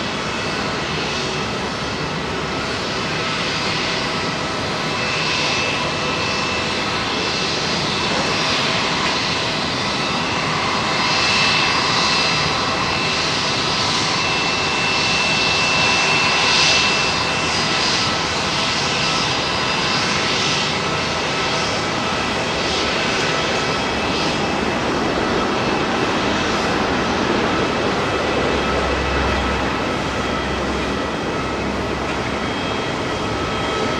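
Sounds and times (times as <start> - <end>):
aircraft engines running: 0.0 - 33.9.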